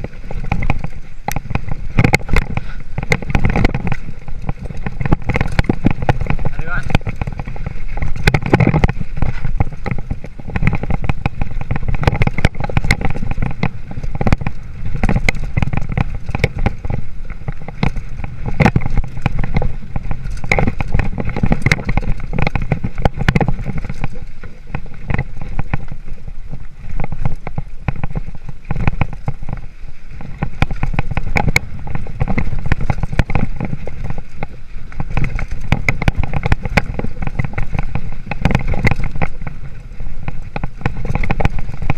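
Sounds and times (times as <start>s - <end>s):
bike rattling over rough trail: 0.0s - 41.9s
wind and rolling noise: 0.0s - 41.9s.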